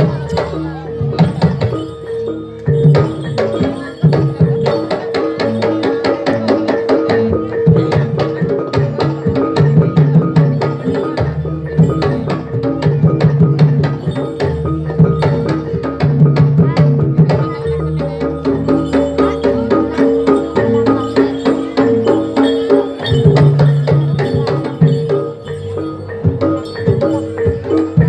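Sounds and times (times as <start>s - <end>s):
sustained ringing tones: 0.0s - 16.3s, 17.3s - 28.0s
drums: 0.0s - 28.0s
tuned percussion: 0.0s - 28.0s.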